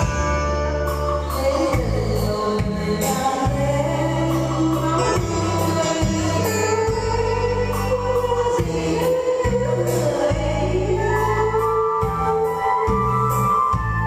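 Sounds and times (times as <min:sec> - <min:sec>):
person singing: 0:00.0 - 0:12.8
instrumental backing music: 0:00.0 - 0:14.0.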